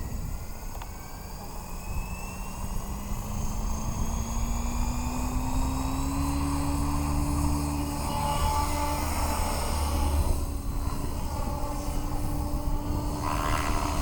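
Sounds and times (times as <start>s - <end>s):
model helicopter motor whining: 0.0s - 14.0s.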